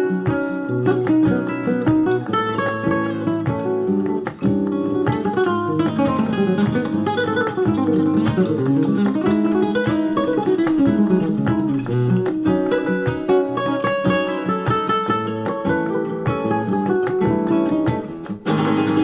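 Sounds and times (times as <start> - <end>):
acoustic guitar through small speaker: 0.0 - 19.0.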